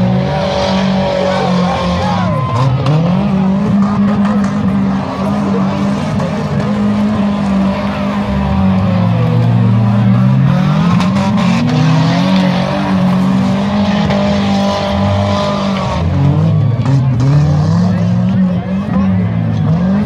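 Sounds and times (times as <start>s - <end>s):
vehicle engines revving: 0.0s - 20.0s.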